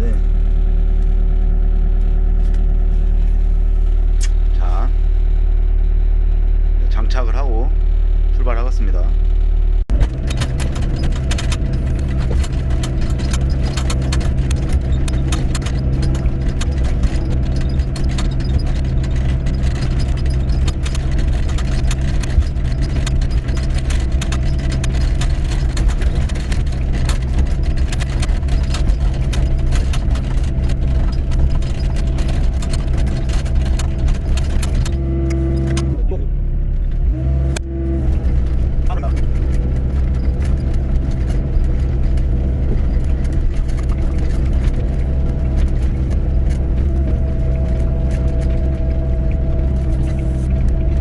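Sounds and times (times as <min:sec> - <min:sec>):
excavator diesel engine: 0:00.0 - 0:51.0
rattling clatter: 0:08.7 - 0:36.0, 0:36.6 - 0:51.0.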